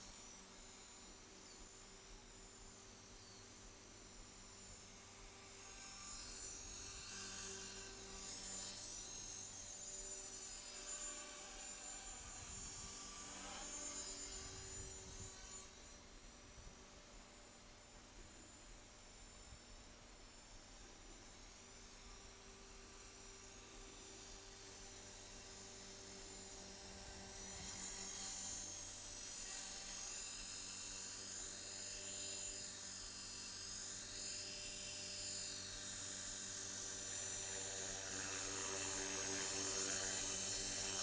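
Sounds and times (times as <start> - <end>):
rc helicopter motor whine: 0.0 - 41.0.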